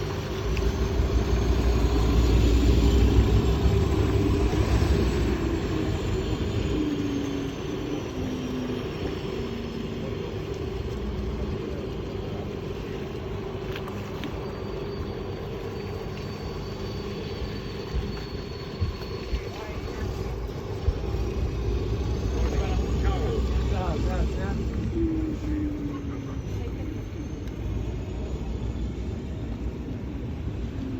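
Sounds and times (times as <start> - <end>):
boat engine rumble: 0.0 - 30.9.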